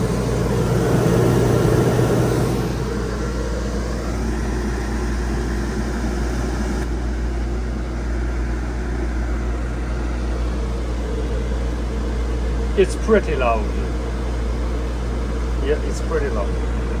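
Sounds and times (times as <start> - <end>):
air conditioner running: 0.0 - 17.0.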